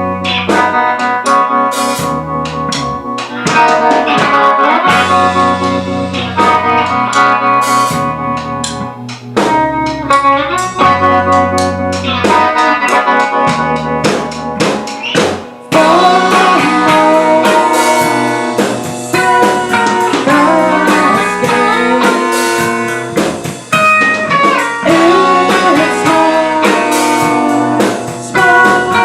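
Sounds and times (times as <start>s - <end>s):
bass notes: 0.0s - 29.0s
drums and cymbal hits: 0.0s - 29.0s
guitar chords: 0.0s - 29.0s.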